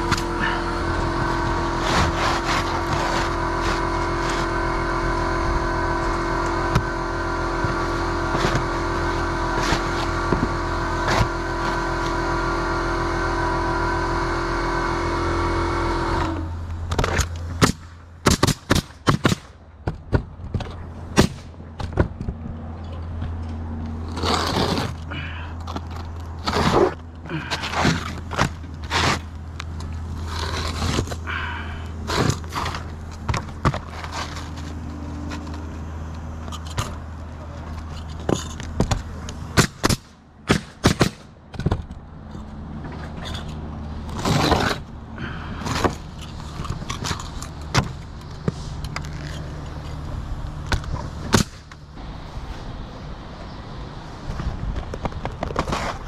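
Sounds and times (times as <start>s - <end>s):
shingles scraping: 0.0s - 12.4s, 16.9s - 52.9s, 54.1s - 56.0s
steady motor hum: 0.0s - 18.2s, 19.7s - 54.9s.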